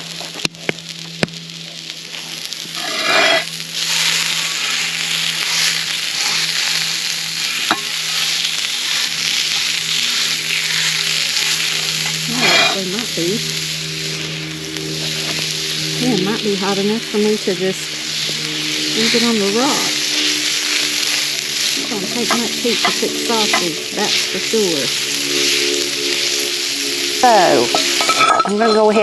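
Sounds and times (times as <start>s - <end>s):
sausage sizzling in a pan: 0.0s - 29.0s.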